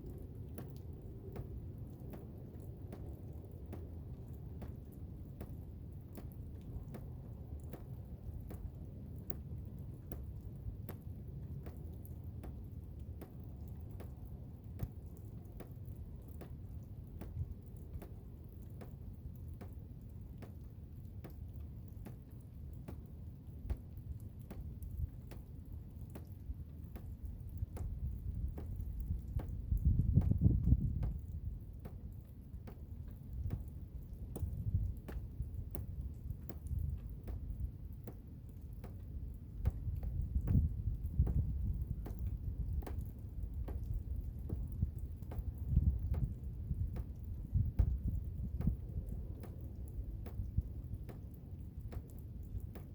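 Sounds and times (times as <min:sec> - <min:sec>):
low rumble of wind: 0:00.0 - 0:52.9.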